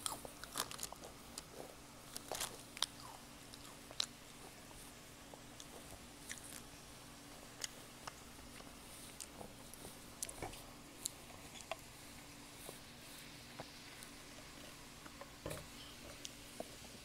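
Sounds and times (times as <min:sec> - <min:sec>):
child chewing crunchy food: 0:00.0 - 0:15.2.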